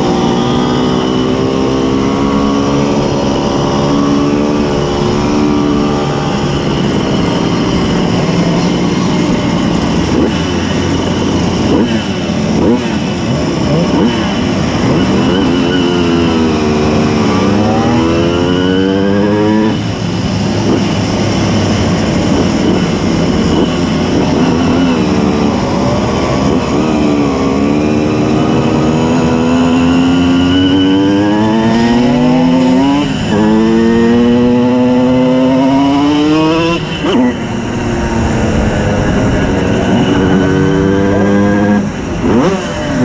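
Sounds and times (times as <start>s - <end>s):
moped engine accelerating: 0.0s - 43.0s.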